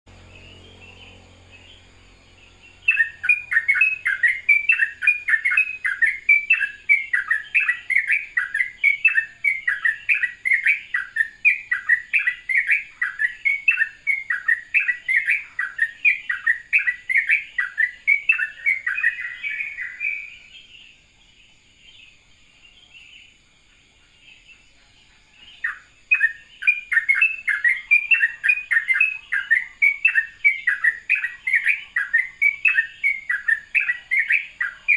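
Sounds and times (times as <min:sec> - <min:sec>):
bird chirping rapidly: 0:00.1 - 0:21.0, 0:25.3 - 0:34.9.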